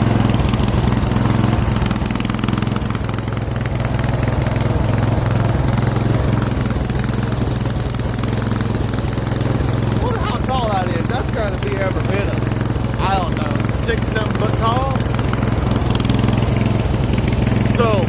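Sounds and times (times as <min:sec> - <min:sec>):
riding lawn mower engine running: 0:00.0 - 0:18.0.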